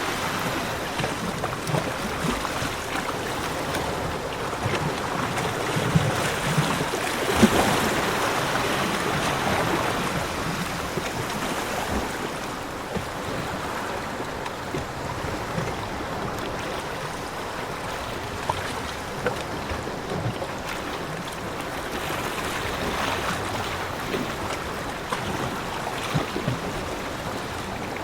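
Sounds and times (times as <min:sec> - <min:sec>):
ocean waves washing onto beach: 0:00.0 - 0:28.0.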